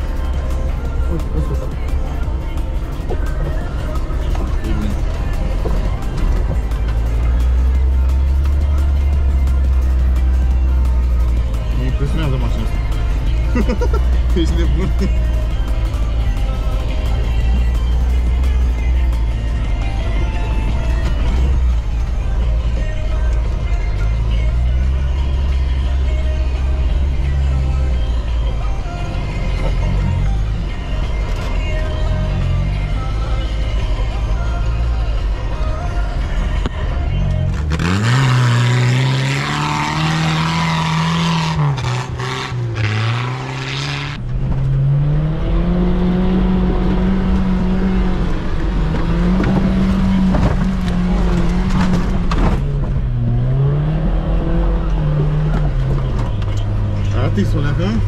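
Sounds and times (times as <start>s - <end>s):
off-road engines revving: 0.0s - 35.4s, 36.6s - 58.0s
music with heavy bass: 0.0s - 58.0s.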